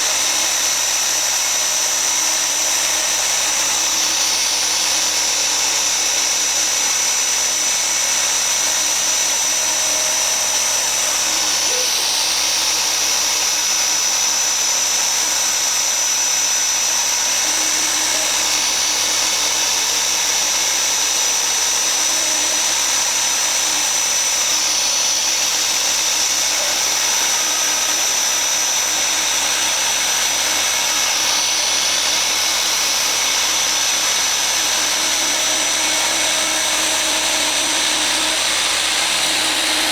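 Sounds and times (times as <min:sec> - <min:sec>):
cnc router spindle whining: 0:00.0 - 0:39.9.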